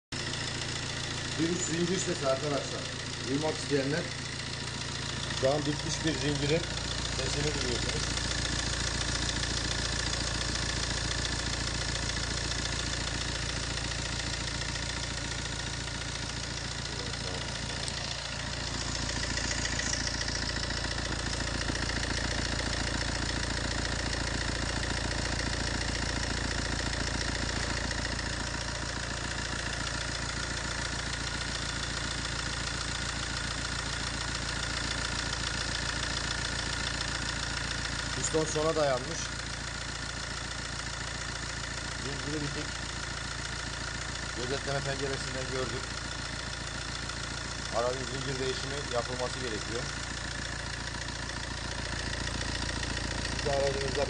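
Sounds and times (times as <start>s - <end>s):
diesel engine idling: 0.1s - 54.0s.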